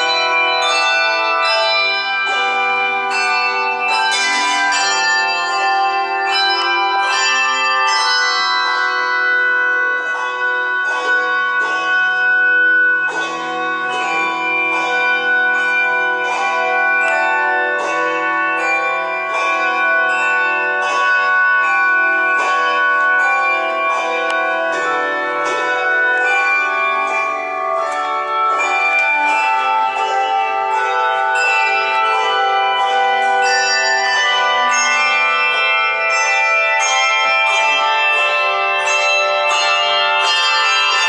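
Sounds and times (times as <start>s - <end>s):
handbells ringing: 0.0s - 41.0s.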